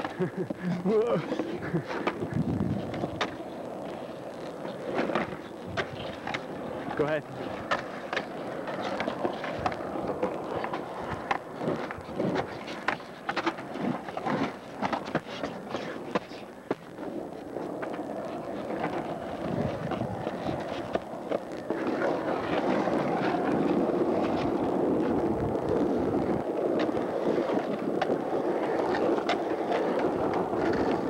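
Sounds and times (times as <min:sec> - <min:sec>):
skateboard wheels rolling on concrete: 0:00.0 - 0:31.0.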